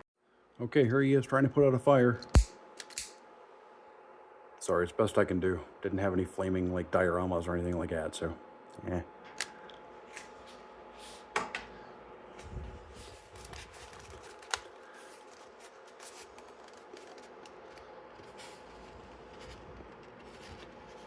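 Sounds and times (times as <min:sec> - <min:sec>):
faint steady hum: 0:00.2 - 0:21.0.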